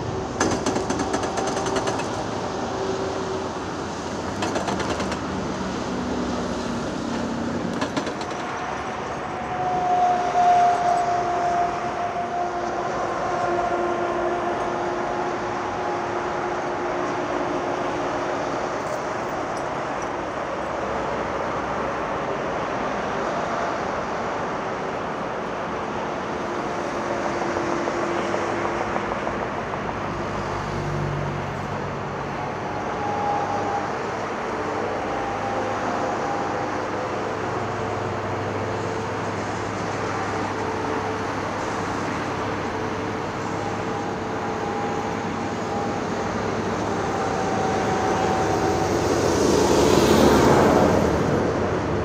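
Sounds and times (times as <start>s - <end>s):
diesel construction machinery running: 0.0s - 52.0s.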